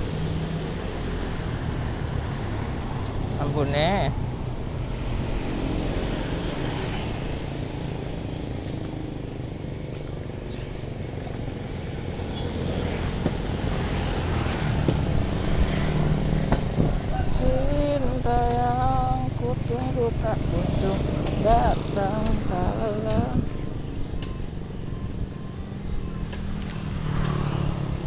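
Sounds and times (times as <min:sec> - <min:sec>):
cars passing: 0:00.0 - 0:28.0
motorcycles passing: 0:00.0 - 0:28.0.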